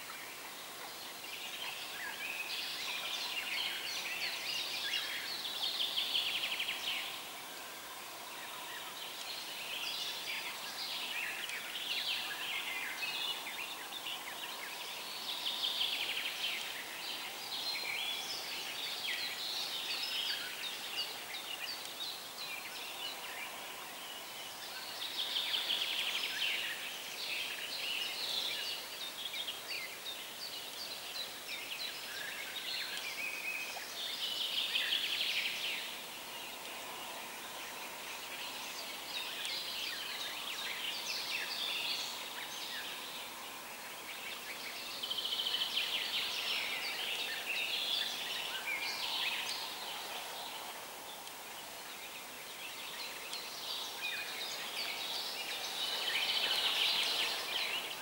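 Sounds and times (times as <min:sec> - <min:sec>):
running river water: 0:00.0 - 0:58.0
songbirds singing: 0:00.0 - 0:58.0.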